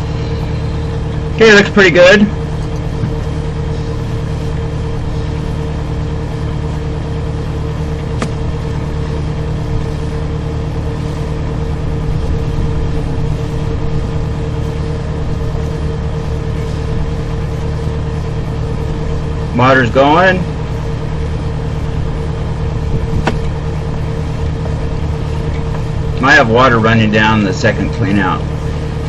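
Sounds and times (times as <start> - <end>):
sewer jetter engine running: 0.0 - 29.0.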